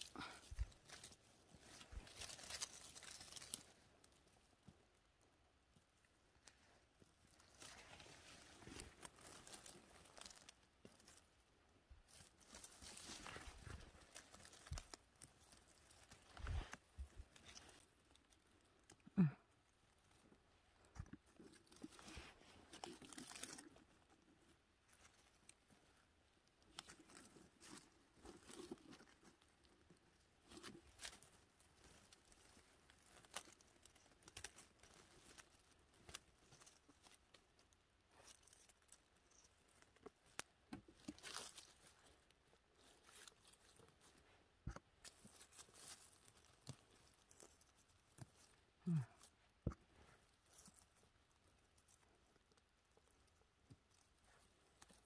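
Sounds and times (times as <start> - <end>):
rustling and crackling undergrowth: 0.0 - 55.0.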